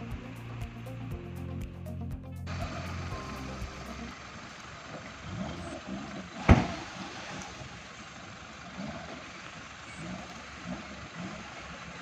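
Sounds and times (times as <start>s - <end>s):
road traffic: 0.0s - 12.0s
vehicle engines running: 0.0s - 12.0s.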